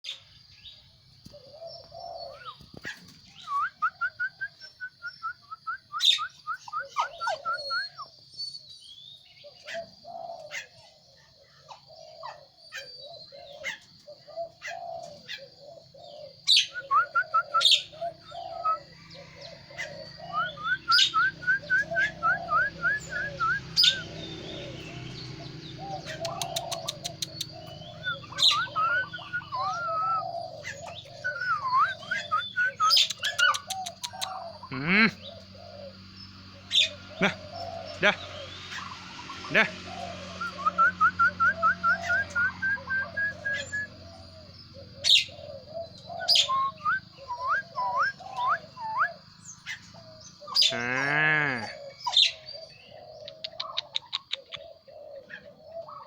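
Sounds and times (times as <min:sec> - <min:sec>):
birds chirping: 0:00.0 - 0:56.0
low warbling bird calls: 0:00.0 - 0:56.0.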